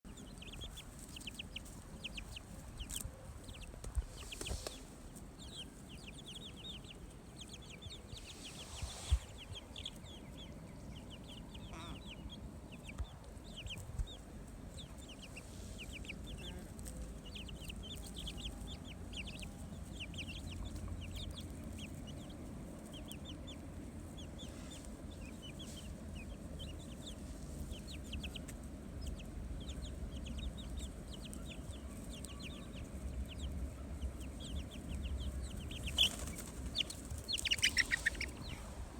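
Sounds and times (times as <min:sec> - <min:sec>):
chickens chirping: 0:00.1 - 0:38.9.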